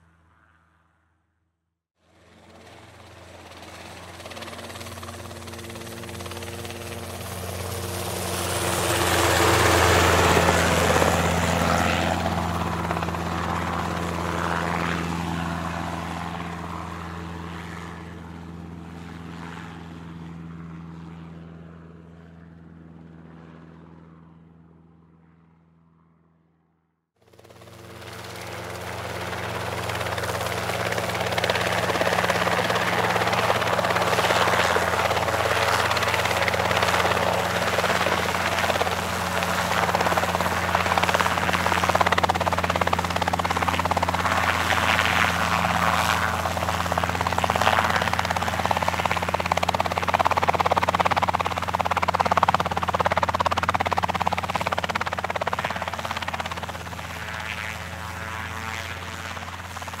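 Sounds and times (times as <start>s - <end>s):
aircraft engine drone passing: 0.0s - 1.4s, 2.0s - 26.6s, 27.2s - 60.0s.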